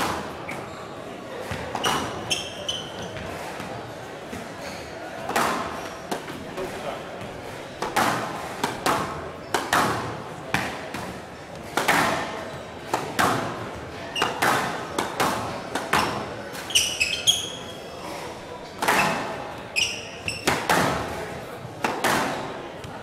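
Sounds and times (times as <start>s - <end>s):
squash ball hits echoing: 0.0s - 0.7s, 1.3s - 17.6s, 18.7s - 23.0s
court shoes squeaking: 0.0s - 23.0s.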